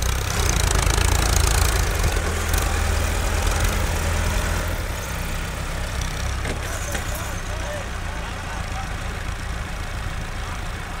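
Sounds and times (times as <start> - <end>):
tractor engine under heavy load: 0.0 - 11.0.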